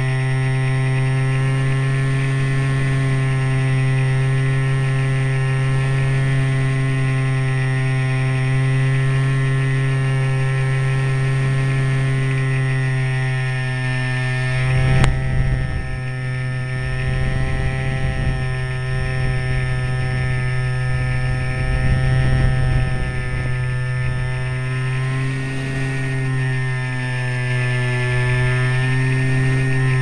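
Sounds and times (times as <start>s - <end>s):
low rumbling wind noise: 0.0s - 30.0s
model plane motor buzzing: 0.0s - 30.0s.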